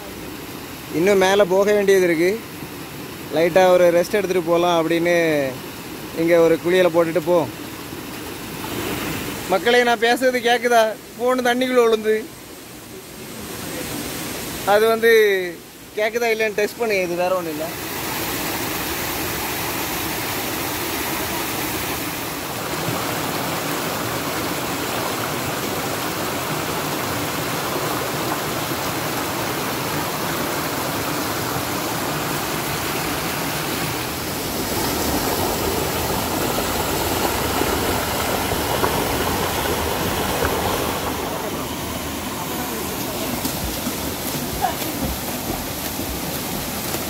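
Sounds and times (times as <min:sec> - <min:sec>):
waterfall and stream rushing: 0:00.0 - 0:47.0.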